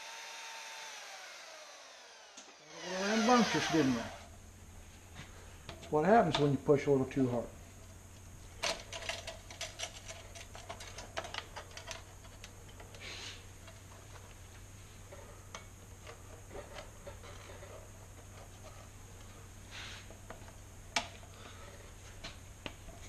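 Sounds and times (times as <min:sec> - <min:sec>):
faint low hum: 0:02.2 - 0:23.0.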